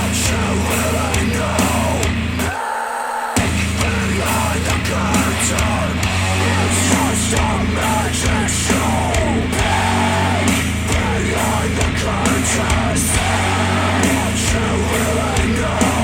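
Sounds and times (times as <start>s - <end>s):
bass line: 0.0s - 2.5s, 3.4s - 16.0s
electric guitar: 0.0s - 16.0s
heavy rock music: 0.0s - 16.0s
shouted vocals: 0.0s - 16.0s.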